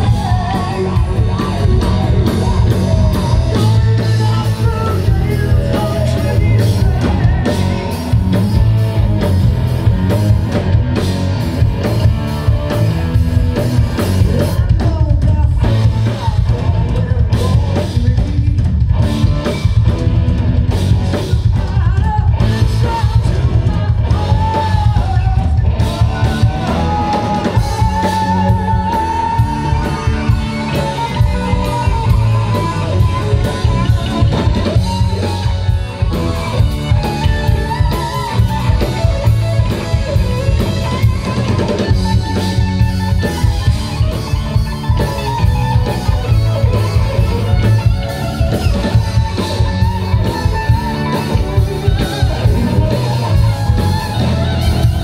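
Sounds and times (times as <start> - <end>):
electric guitar lead line: 0.0 - 55.0
rock band playing: 0.0 - 55.0.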